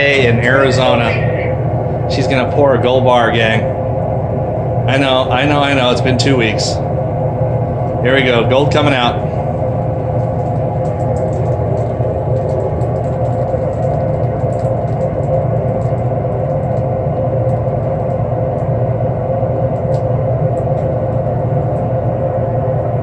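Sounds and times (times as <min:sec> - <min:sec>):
furnace roaring: 0:00.0 - 0:23.0.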